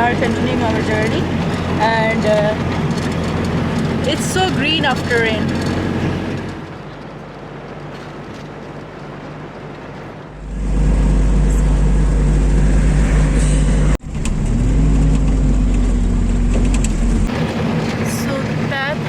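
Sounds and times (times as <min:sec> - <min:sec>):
road noise: 0:00.0 - 0:19.0
truck engine: 0:00.0 - 0:19.0.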